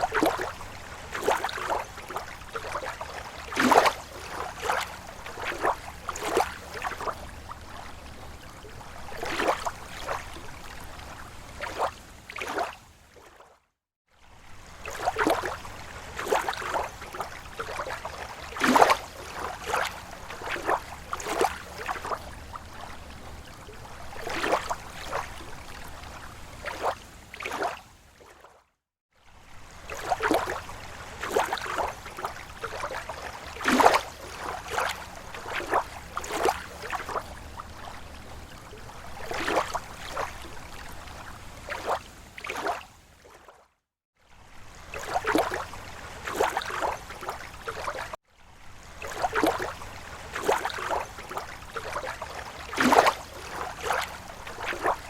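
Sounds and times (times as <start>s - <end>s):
waves lapping against shore: 0.0s - 55.0s.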